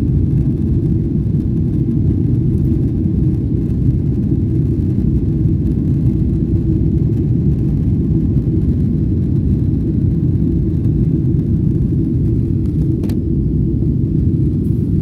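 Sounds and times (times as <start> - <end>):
jet cabin engine rumble: 0.0 - 15.0.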